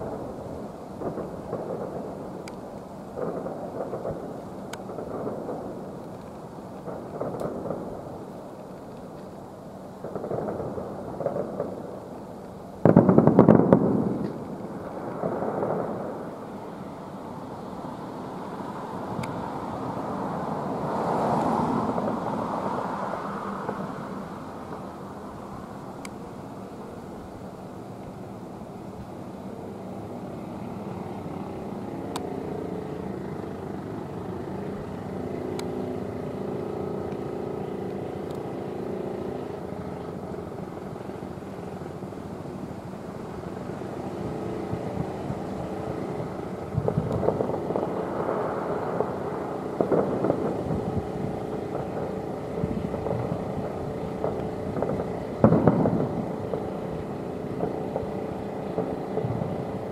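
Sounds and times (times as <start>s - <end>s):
fireworks booms and crackles: 0.0s - 41.2s, 41.8s - 59.9s
background rumble: 0.0s - 59.9s
faint drone: 0.0s - 59.9s.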